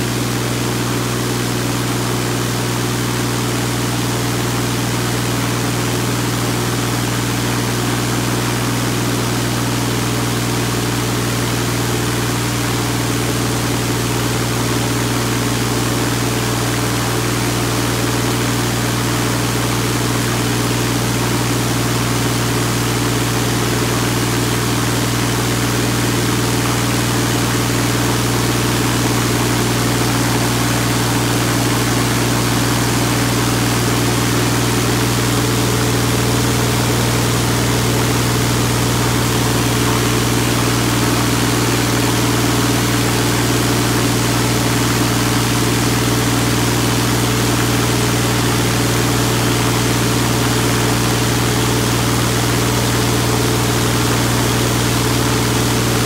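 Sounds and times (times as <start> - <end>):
aircraft engine running at high power: 0.0 - 56.0.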